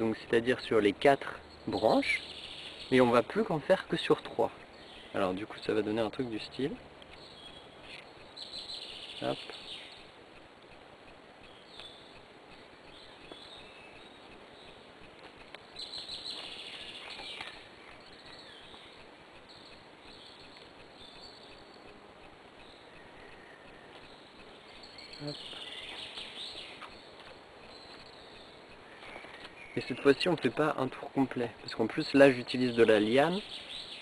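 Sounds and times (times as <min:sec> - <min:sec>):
faint bird chirps: 0:00.0 - 0:34.0
outdoor hiss: 0:00.0 - 0:34.0.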